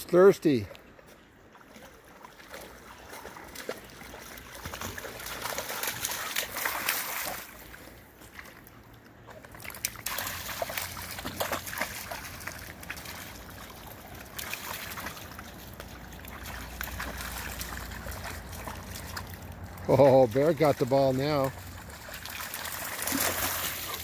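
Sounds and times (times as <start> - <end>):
dogs splashing through water: 0.5 - 24.0.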